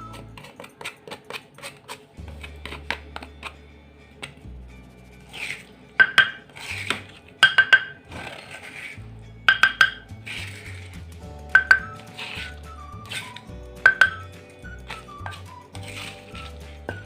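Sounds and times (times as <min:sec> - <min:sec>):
background music: 0:00.0 - 0:00.8, 0:02.1 - 0:17.0.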